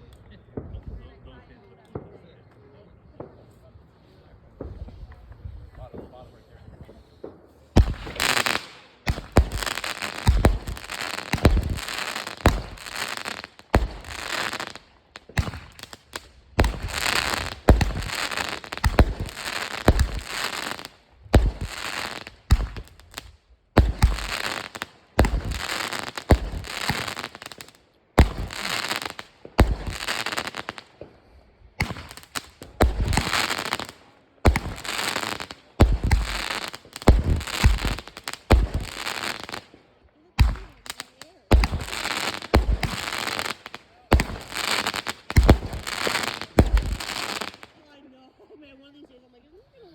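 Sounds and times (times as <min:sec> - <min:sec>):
fireworks crackling: 0:04.5 - 0:47.9
fireworks booming: 0:06.8 - 0:39.8, 0:40.4 - 0:47.7.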